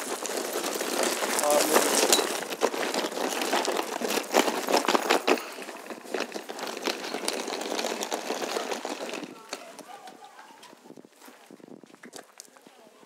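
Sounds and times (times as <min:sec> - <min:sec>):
footsteps crunching on gravel: 0:00.0 - 0:13.0
suitcase wheels rattling on gravel: 0:00.0 - 0:13.0.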